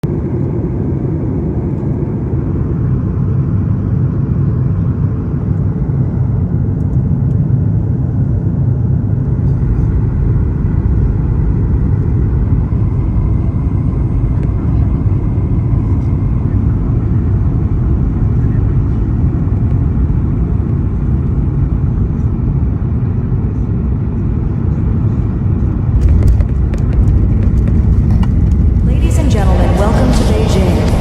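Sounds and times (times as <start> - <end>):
aircraft cabin rumble: 0.1 - 31.0.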